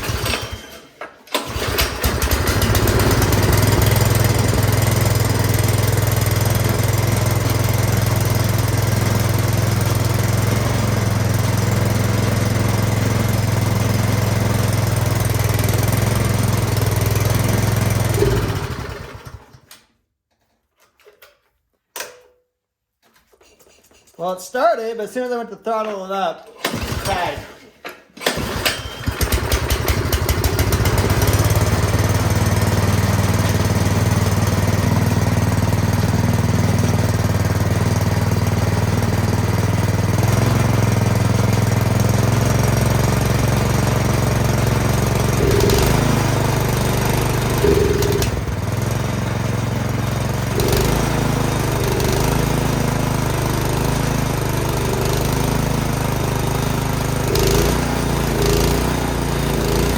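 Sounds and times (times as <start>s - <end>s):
snowblower engine running: 0.0s - 19.6s, 26.6s - 27.4s, 28.2s - 59.9s.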